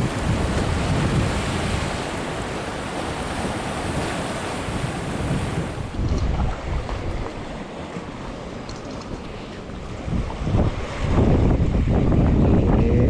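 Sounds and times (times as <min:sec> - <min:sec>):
surf washing on rocky shore: 0:00.0 - 0:12.5
wind buffeting microphone: 0:00.0 - 0:13.0.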